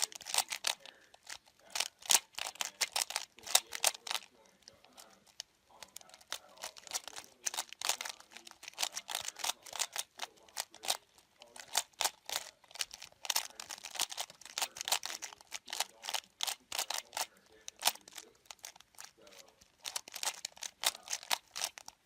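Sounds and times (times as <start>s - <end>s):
puzzle cube clicking: 0.0s - 22.0s.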